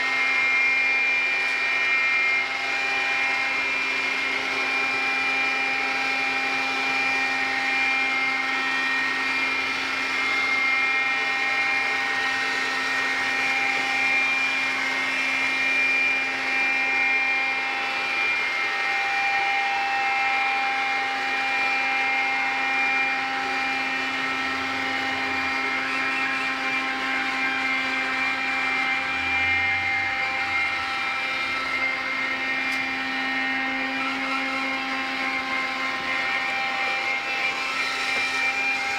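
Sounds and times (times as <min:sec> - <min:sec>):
floor robot motor whine: 0:00.0 - 0:38.9.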